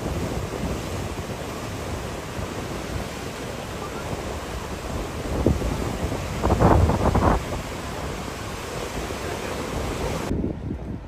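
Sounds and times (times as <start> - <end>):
sea surf: 0.0 - 10.6
wind gusting across microphone: 0.0 - 11.0.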